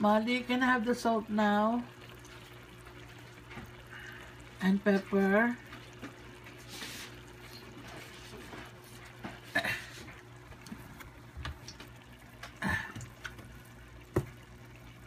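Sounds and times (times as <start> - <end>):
food simmering in a pan: 0.0 - 15.0.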